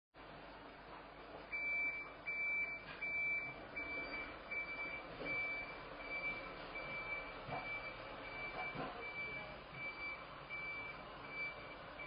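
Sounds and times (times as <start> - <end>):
reversing alarm beeping: 1.5 - 12.0.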